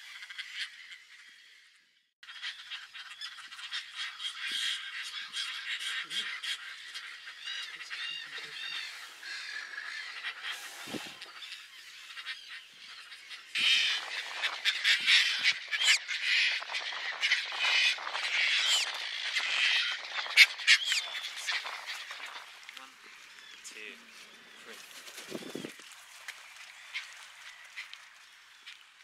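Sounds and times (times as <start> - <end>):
terns calling harshly: 2.2 - 28.8.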